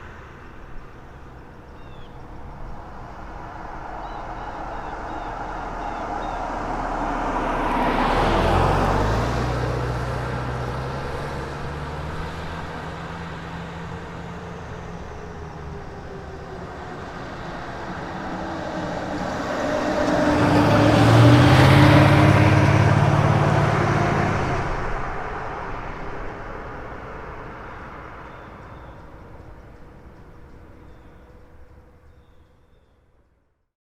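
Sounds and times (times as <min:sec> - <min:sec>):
cars driving past: 0:00.0 - 0:32.0.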